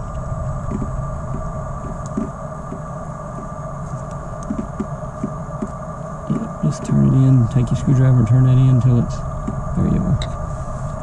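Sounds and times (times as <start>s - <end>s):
electrical hum and whine: 0.0s - 11.0s.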